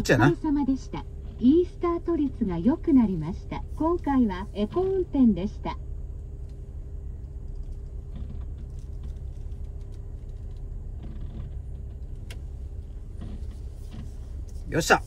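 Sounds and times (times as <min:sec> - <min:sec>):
car engine low rumble: 0:00.0 - 0:15.0
steady hum: 0:00.0 - 0:15.0.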